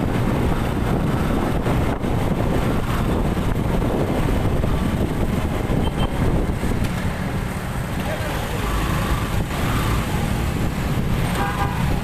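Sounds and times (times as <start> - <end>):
wind rushing over microphone: 0.0 - 8.0, 8.6 - 12.0
motorcycle engine and road noise: 0.0 - 12.0.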